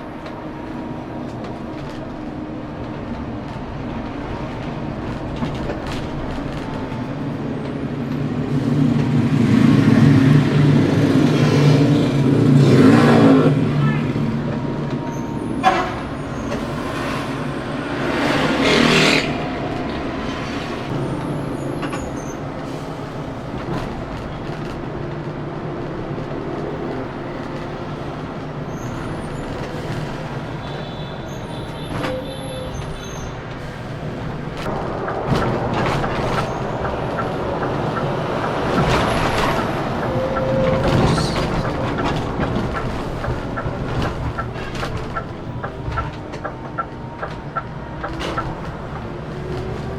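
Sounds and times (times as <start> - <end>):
coach engine and road noise: 0.0 - 49.9.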